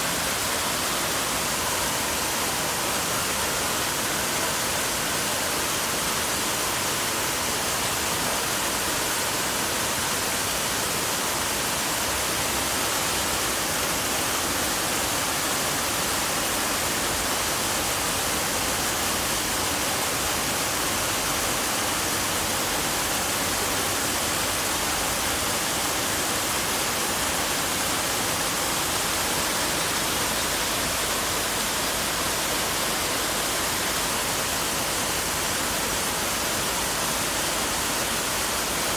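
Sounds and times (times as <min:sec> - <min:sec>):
fountain water jets splashing: 0:00.0 - 0:38.9.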